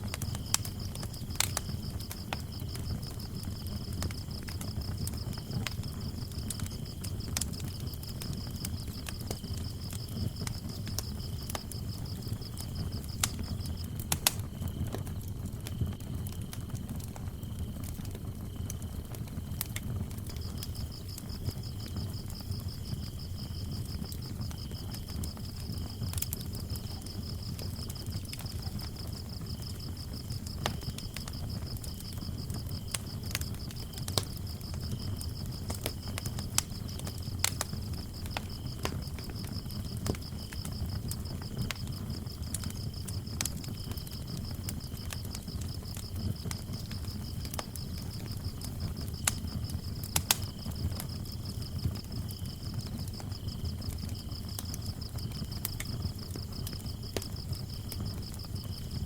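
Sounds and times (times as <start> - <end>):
crickets trilling: 0.0 - 59.0
wood fire crackling and popping: 0.0 - 59.0.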